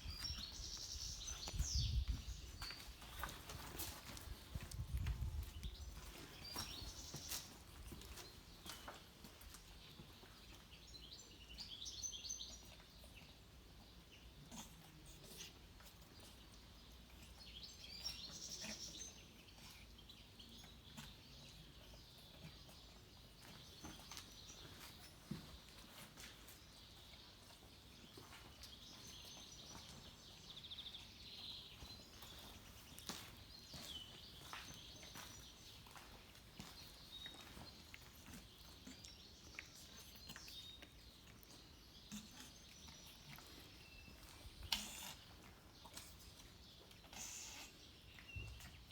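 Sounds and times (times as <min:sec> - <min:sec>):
faint outdoor ambience: 0:00.0 - 0:48.9
small birds chirping: 0:00.0 - 0:48.9.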